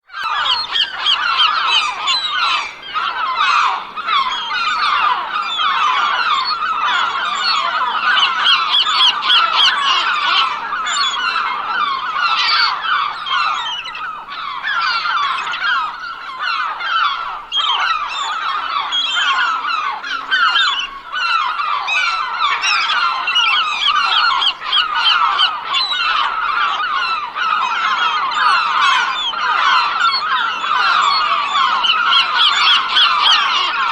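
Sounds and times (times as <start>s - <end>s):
seagulls calling: 0.1s - 33.9s.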